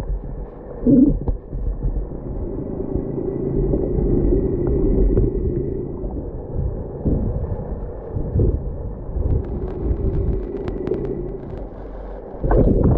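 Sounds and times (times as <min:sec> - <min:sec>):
muffled underwater rumble: 0:00.0 - 0:12.9.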